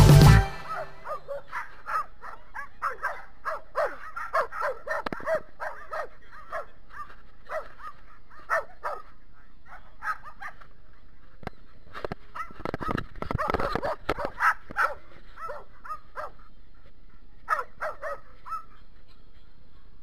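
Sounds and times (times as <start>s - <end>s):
dogs barking: 0.4s - 16.6s, 17.2s - 19.4s.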